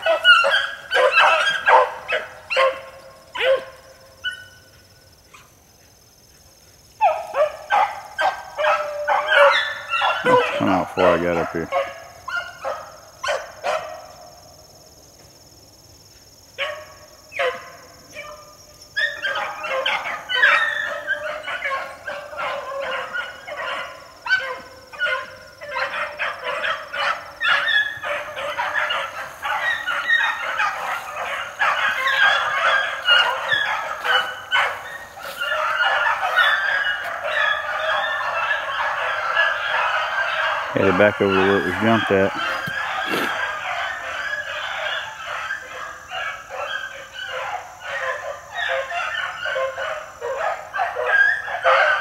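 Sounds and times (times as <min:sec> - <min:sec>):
beagles baying: 0:00.0 - 0:05.6, 0:07.0 - 0:14.5, 0:16.5 - 0:52.0.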